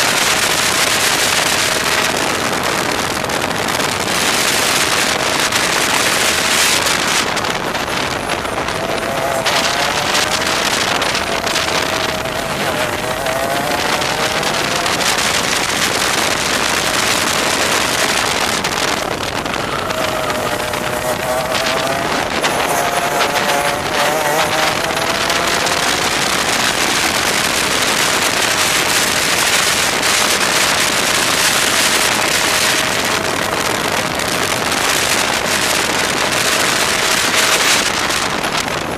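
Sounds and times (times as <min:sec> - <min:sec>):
two-stroke kart engine revving: 0:00.0 - 0:38.9
wind rushing on microphone: 0:00.0 - 0:38.9.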